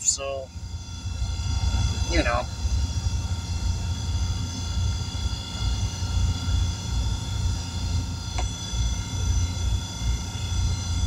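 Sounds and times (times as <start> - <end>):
constant machine whine: 0.0 - 11.0
machine low rumble: 0.0 - 11.0.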